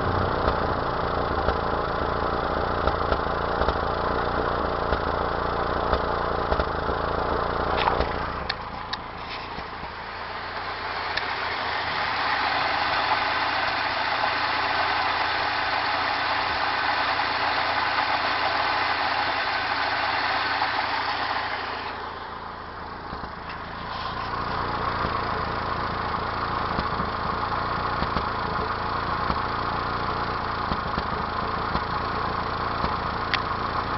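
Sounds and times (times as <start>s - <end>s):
engine idling with misfire: 0.0s - 33.9s.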